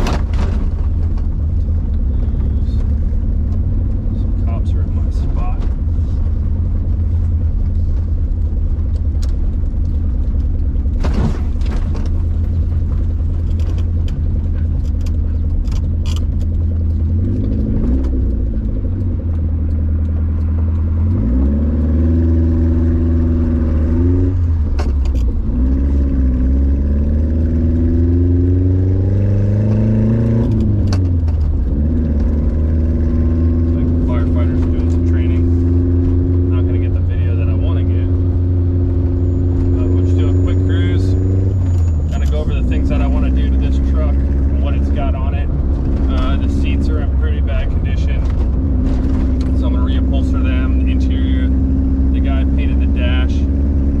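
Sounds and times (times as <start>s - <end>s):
truck engine running loud and low: 0.0s - 54.0s.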